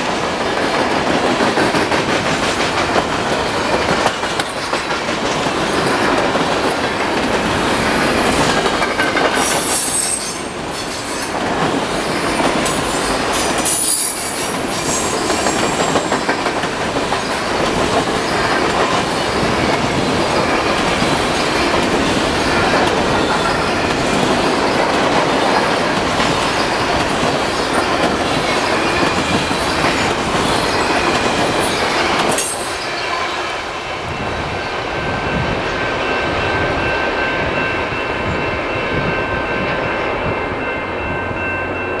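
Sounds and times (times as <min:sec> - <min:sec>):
train wheels running on rails: 0:00.0 - 0:42.0.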